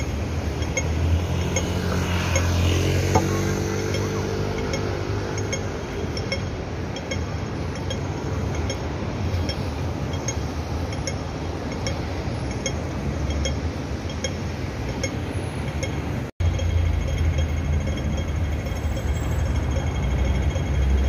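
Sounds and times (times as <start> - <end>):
faint bright clinking ticks: 0.0 - 21.0
traffic rumble: 0.0 - 21.0.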